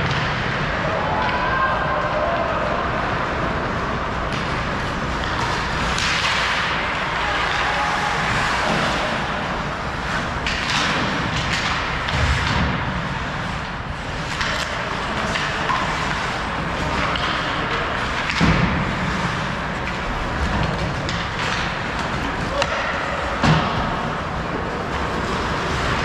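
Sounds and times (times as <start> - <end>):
skates scraping ice: 0.1 - 26.0.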